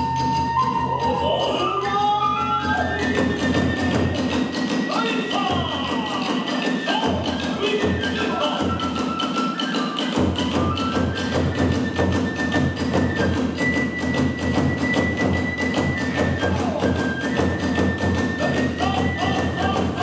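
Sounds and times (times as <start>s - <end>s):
bamboo flute long high notes: 0.0s - 20.0s.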